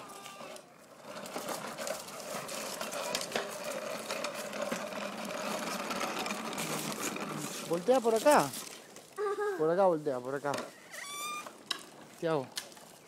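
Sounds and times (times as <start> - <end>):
plastic wheels rolling on concrete: 0.0 - 13.0.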